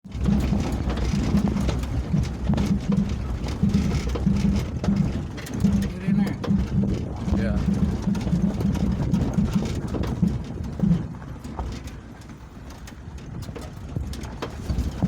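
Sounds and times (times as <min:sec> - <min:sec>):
knocks and clicks from bumps: 0:00.0 - 0:15.0
low engine drone: 0:00.0 - 0:15.0.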